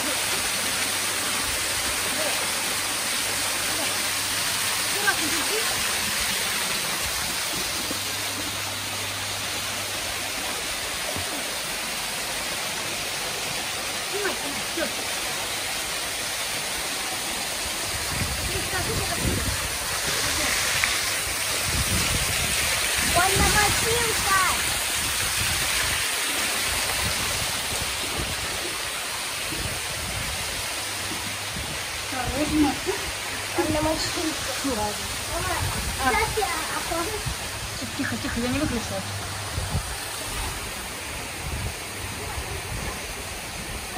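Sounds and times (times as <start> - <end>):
waterfall splashing into pool: 0.0 - 43.9.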